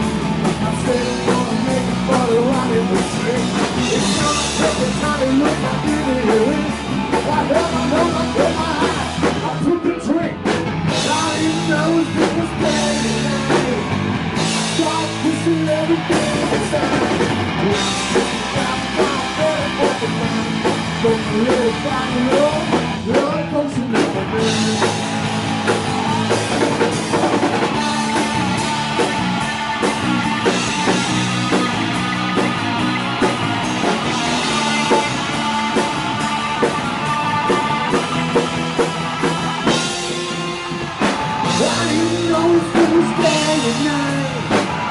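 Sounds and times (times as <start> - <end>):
drums: 0.0 - 44.9
electric guitar: 0.0 - 44.9
person singing: 0.0 - 44.9.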